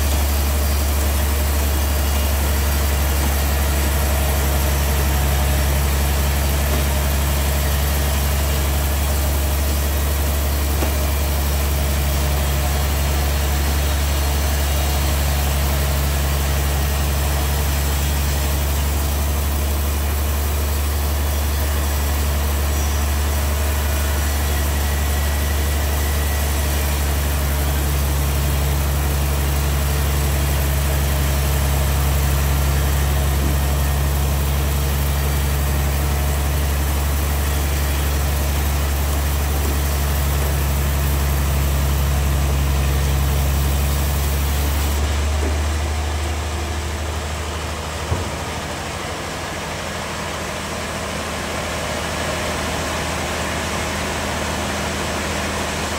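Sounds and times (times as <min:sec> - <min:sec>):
sawmill machine hum: 0:00.0 - 0:55.9.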